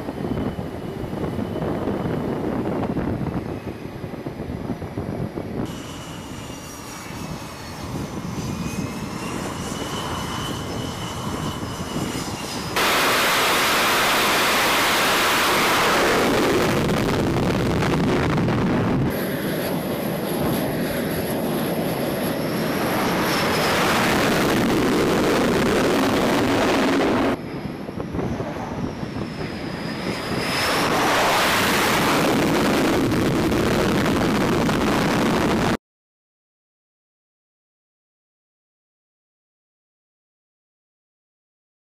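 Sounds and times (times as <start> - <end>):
jet engine turbine whine: 0.0 - 35.8
loud jet engine noise: 0.0 - 35.8.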